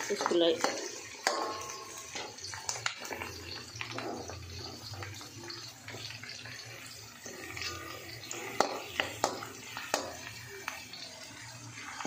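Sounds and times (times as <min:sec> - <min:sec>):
metal spatula scraping a wok: 0:00.0 - 0:12.0
vegetables sizzling in hot oil: 0:00.0 - 0:12.0.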